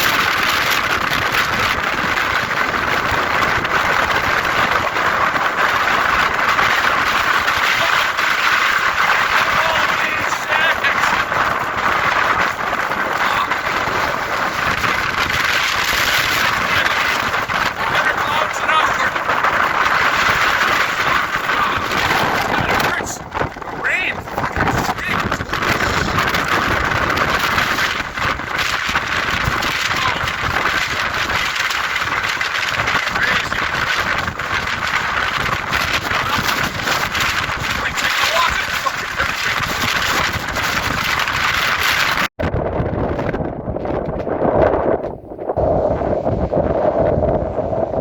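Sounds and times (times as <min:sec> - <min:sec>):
wind and rain rushing: 0:00.0 - 0:48.0.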